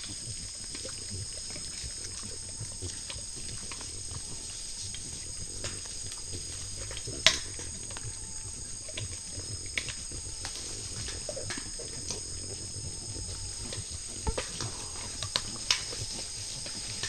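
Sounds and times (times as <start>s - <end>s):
animals foraging clicks and snaps: 0.0s - 17.0s
insects trilling: 0.0s - 17.0s.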